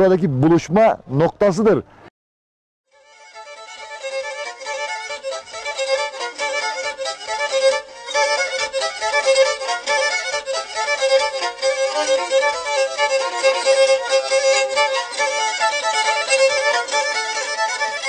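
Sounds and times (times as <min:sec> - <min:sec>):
bowed string instrument dance tune: 0:02.9 - 0:18.0.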